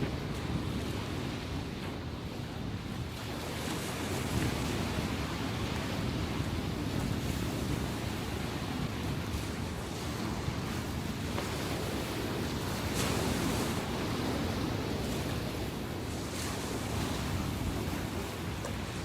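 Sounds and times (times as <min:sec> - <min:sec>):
ocean waves washing on shore: 0:00.0 - 0:19.0
wind noise on microphone: 0:00.0 - 0:19.0.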